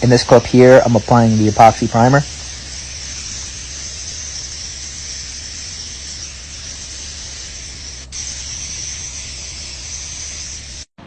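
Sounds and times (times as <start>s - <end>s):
paint spray gun hissing: 0.0s - 11.0s.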